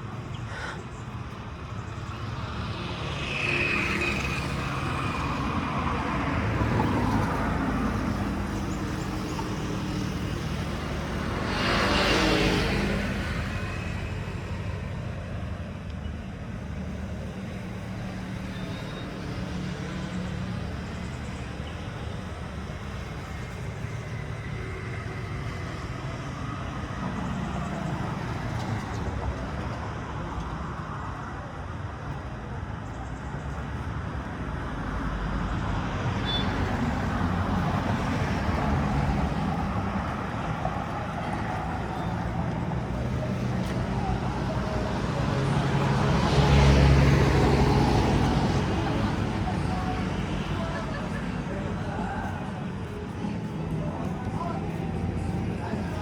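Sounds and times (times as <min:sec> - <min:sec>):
road traffic: 0:00.0 - 0:56.0.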